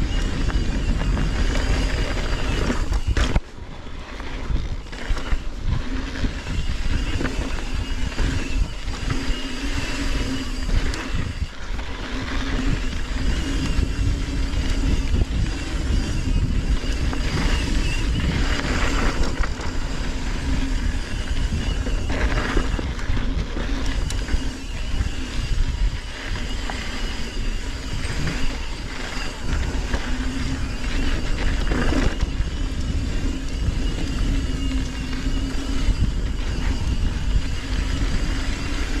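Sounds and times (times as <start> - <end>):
faint steady whine: 0.0 - 39.0
tyres rumbling over rough ground: 0.0 - 39.0
wind buffeting microphone: 0.0 - 39.0.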